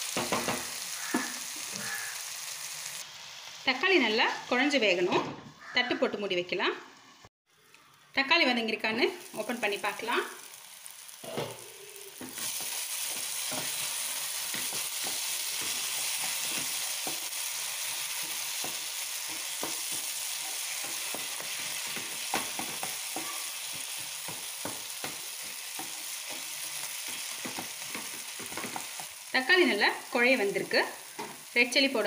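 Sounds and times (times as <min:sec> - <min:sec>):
food sizzling in hot oil: 0:00.0 - 0:05.0, 0:06.8 - 0:32.0.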